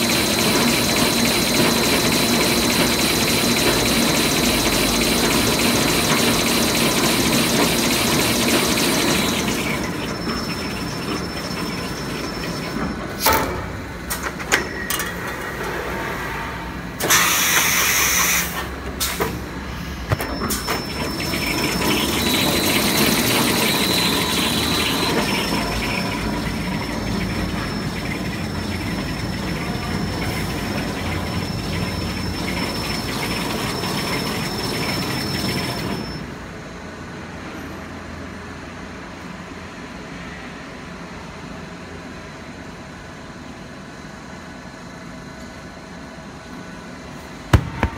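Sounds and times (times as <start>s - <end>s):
machine whirring and whining: 0.0s - 38.5s.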